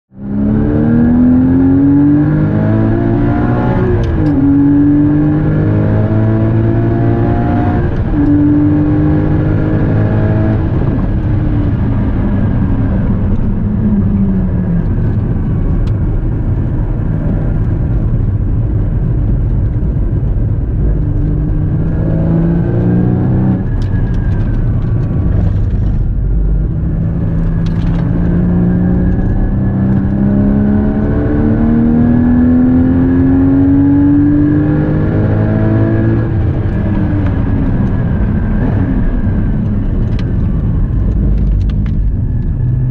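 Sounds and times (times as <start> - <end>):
car engine revving: 0.2 - 42.9.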